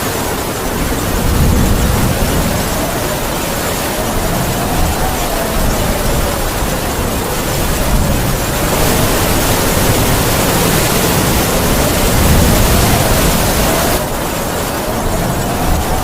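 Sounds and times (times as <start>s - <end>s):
heavy rain falling: 0.0s - 16.0s
wind howling: 0.0s - 16.0s.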